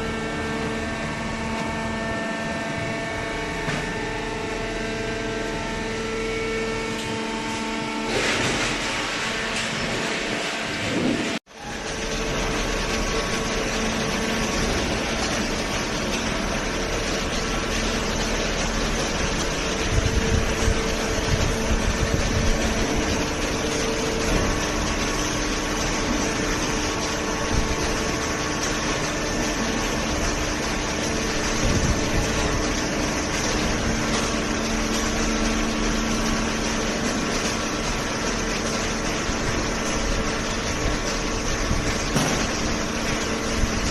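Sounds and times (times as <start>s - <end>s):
shredder and baler machinery running: 0.0s - 43.9s.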